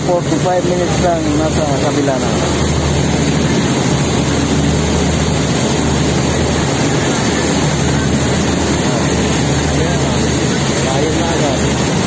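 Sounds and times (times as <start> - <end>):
diesel engine drone: 0.0 - 12.0
water rushing along hull: 0.0 - 12.0.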